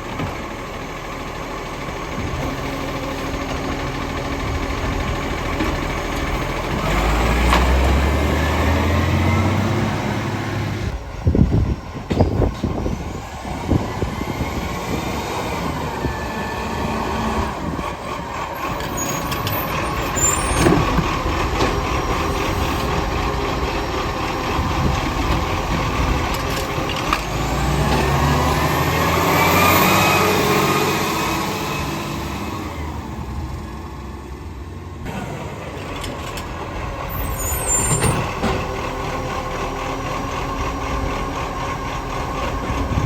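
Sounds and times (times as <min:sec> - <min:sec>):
garbage truck engine running: 0:00.0 - 0:43.0.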